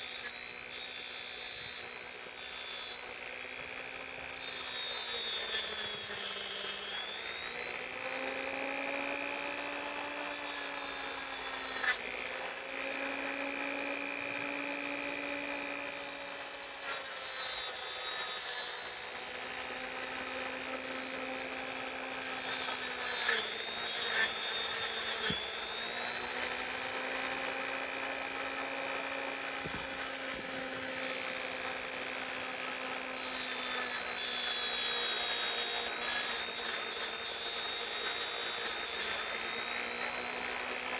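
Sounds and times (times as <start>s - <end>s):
rotary tool whining on metal: 0.0s - 40.9s.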